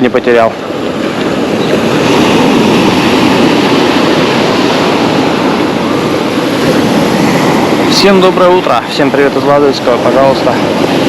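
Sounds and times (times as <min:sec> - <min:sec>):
sea surf breaking on beach: 0:00.0 - 0:11.0.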